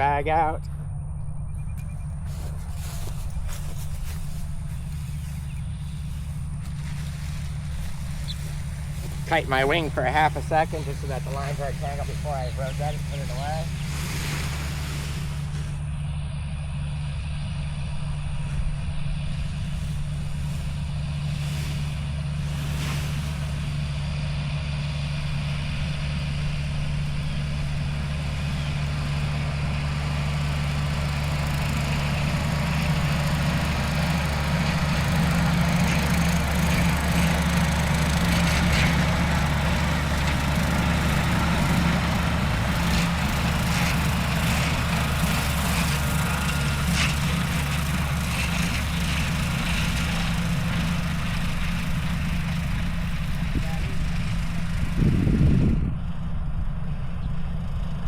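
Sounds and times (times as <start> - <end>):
paramotor engine idling: 0.0 - 58.0.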